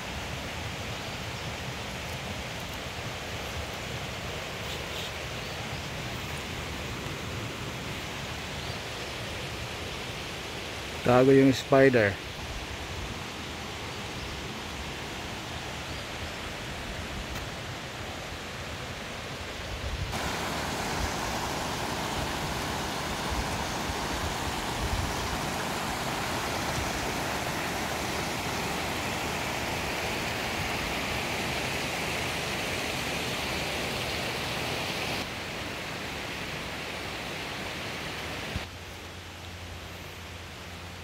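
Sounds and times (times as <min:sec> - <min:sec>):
creek rushing over rapids: 0:00.0 - 0:41.0.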